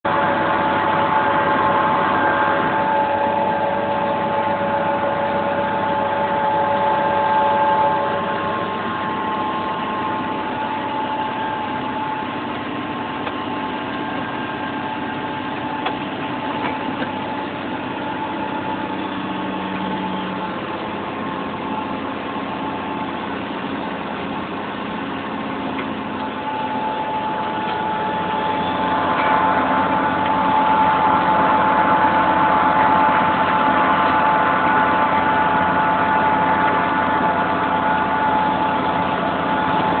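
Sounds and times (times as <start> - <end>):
steady whine: 0.0 - 40.0
tractor diesel engine running: 0.0 - 40.0.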